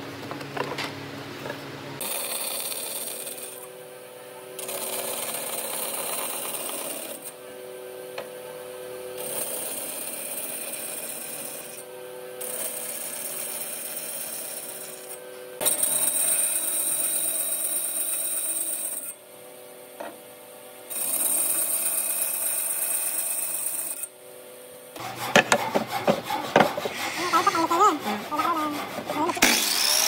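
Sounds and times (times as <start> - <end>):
power tool cutting wood: 2.0 - 3.8, 4.4 - 19.2, 20.8 - 24.1, 24.9 - 30.0.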